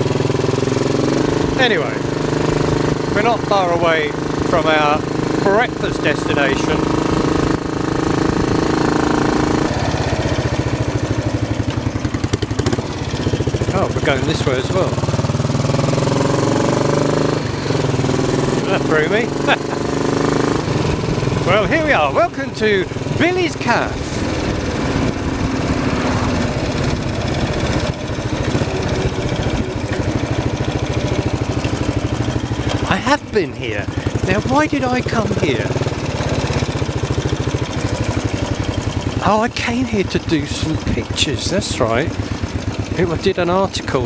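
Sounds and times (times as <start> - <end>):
motorcycle engine thumping: 0.0 - 43.2.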